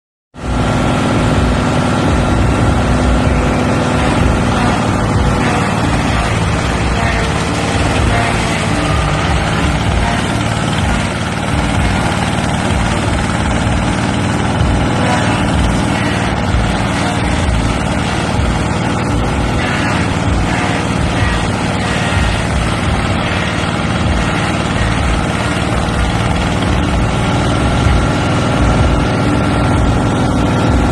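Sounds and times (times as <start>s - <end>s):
machine running with mechanical drone: 0.4s - 30.9s.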